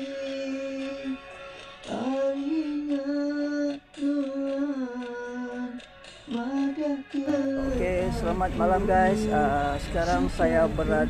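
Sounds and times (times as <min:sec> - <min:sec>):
woman singing slow melody: 0:00.0 - 0:11.0.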